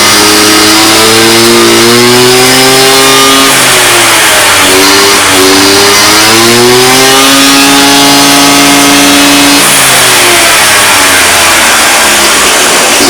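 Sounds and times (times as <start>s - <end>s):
scooter engine revving: 0.0s - 13.0s.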